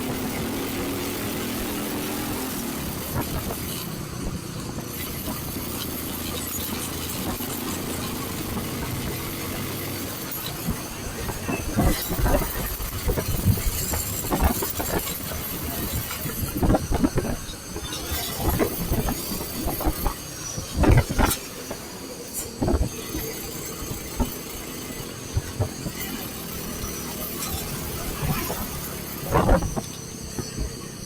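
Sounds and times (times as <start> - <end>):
motorcycle engine: 0.0 - 31.0
wind buffeting microphone: 0.0 - 31.0.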